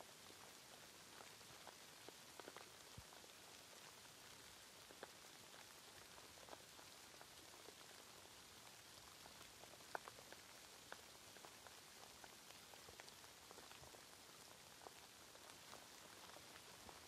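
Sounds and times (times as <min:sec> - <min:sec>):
faint steady rain hiss: 0:00.0 - 0:17.0.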